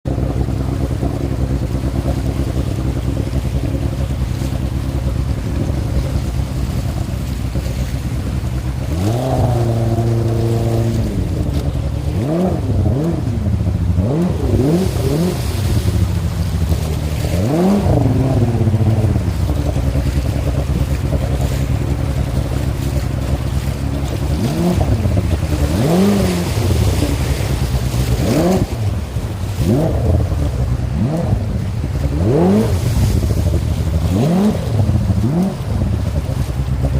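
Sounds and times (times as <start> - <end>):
boat engine revving: 0.0 - 36.9.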